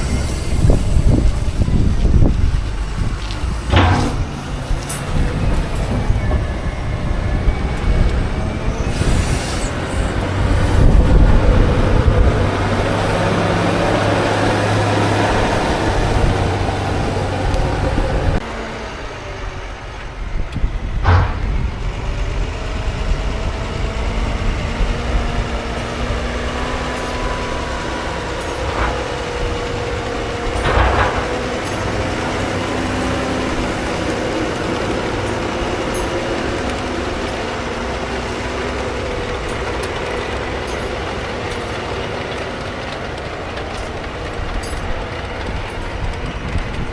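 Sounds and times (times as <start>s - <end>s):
diesel farm machinery running: 0.0s - 46.9s.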